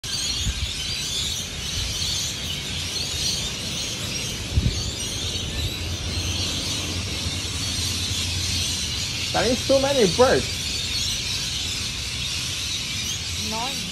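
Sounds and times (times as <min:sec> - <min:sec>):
flock of birds chattering: 0:00.0 - 0:13.9
street traffic rumble: 0:00.0 - 0:13.9.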